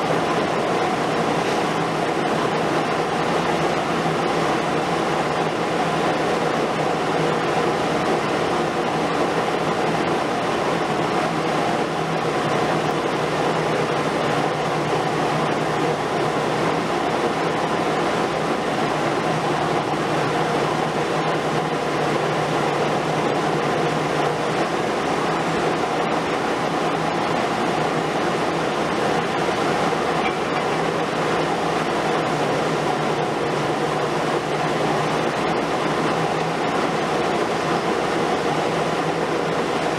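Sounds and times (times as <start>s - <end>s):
excavator engine and hydraulics drone: 0.0s - 39.9s.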